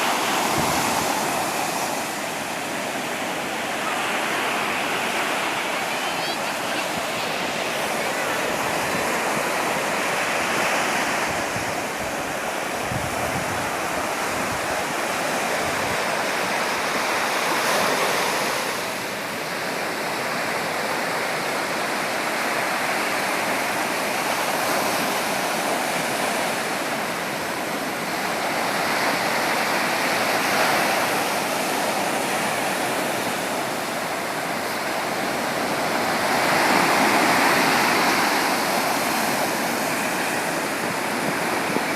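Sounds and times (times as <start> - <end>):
sea waves surf: 0.0 - 41.9.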